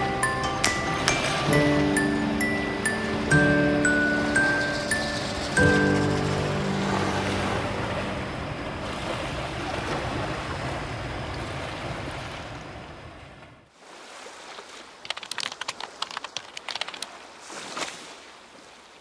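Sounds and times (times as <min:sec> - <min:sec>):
sea waves washing on shore: 0:00.0 - 0:13.2, 0:13.8 - 0:19.0
quiet seaside ambience: 0:00.0 - 0:19.0.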